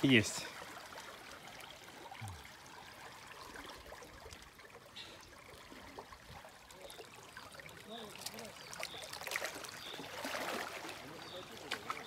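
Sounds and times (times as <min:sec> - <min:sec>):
river water trickling: 0:00.0 - 0:12.0.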